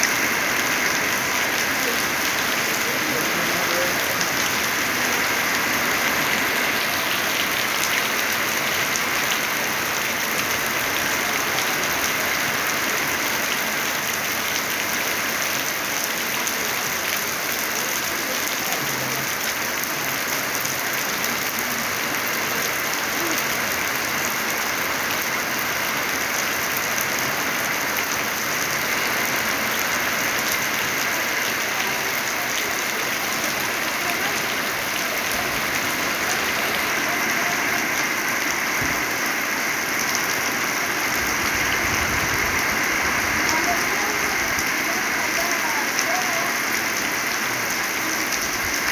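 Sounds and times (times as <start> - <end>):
heavy rain on metal roof: 0.0 - 48.9.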